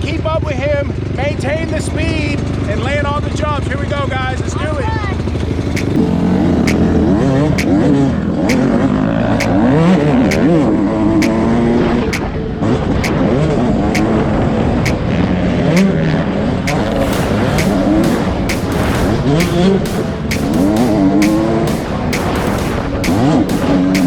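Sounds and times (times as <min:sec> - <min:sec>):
dirt bike engines revving: 0:00.9 - 0:24.0.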